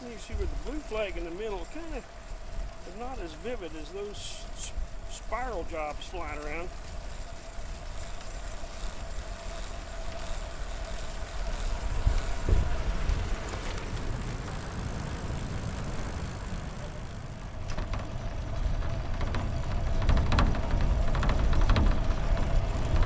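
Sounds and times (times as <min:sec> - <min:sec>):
faint steady whine: 0:00.0 - 0:23.0
road and wind rumble: 0:00.0 - 0:23.0.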